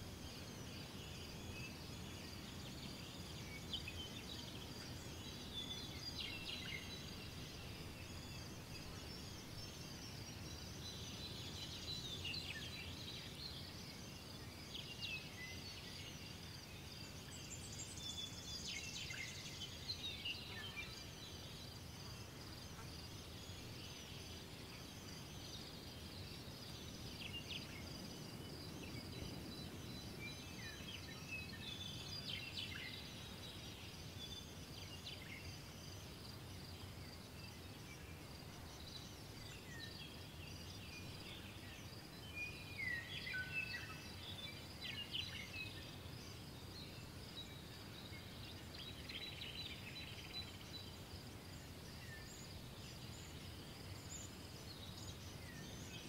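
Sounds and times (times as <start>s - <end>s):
low hiss: 0.0s - 56.0s.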